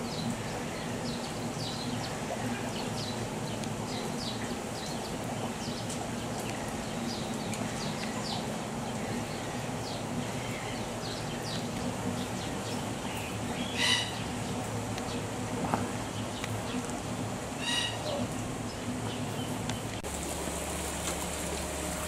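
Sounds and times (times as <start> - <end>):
birds chirping: 0.0 - 20.1
steady background hiss: 0.0 - 22.0.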